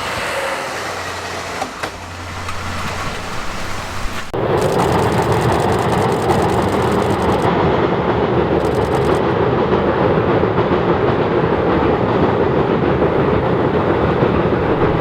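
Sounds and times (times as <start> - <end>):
rail noise: 0.0 - 15.0
steam train passing: 0.0 - 15.0.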